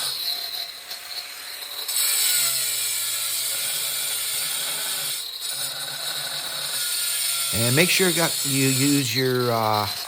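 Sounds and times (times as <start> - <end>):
angle grinder grinding tile: 0.0 - 10.0.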